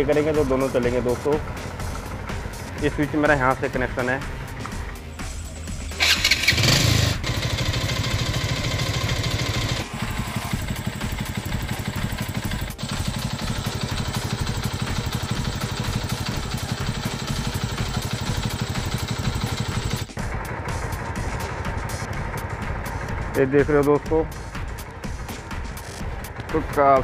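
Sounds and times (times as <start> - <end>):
motorcycle engine idling: 0.0 - 27.0
motorcycle engine starting: 0.1 - 23.4.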